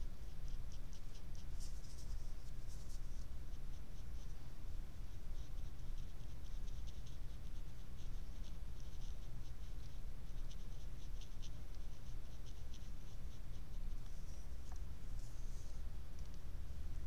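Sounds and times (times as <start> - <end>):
steady low hum: 0.0 - 17.0
paintbrush strokes on paper: 0.3 - 4.4, 5.0 - 16.4.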